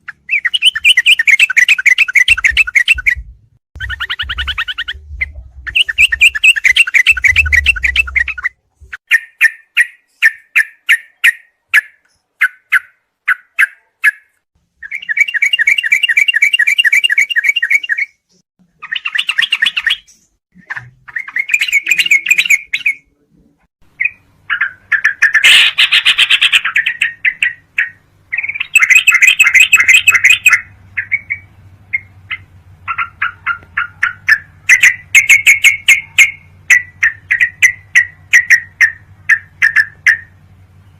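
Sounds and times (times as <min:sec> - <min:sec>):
bulbul chattering song: 0:00.0 - 0:23.1, 0:23.8 - 0:40.9.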